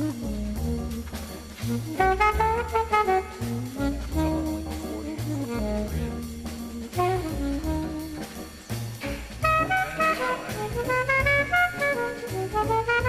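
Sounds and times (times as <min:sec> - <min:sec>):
jazz music with horn melody: 0:00.0 - 0:13.0.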